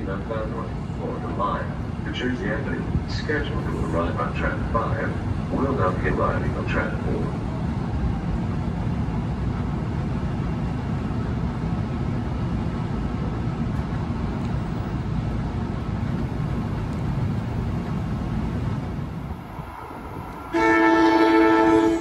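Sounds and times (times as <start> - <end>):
train rumbling on tracks: 0.0 - 22.0.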